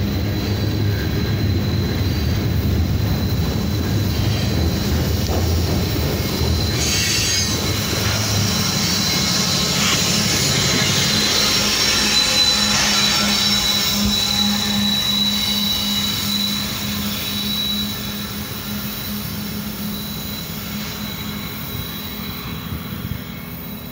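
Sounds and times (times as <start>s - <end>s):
diesel locomotive engine drone: 0.0s - 23.9s
high wheel squeal: 0.0s - 23.9s.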